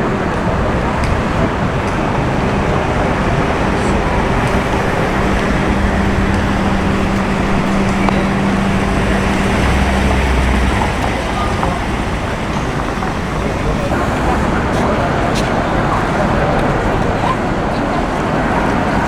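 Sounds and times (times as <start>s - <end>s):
deep rumble: 0.0s - 16.2s
low engine hum: 0.0s - 19.0s
street traffic: 0.0s - 19.0s.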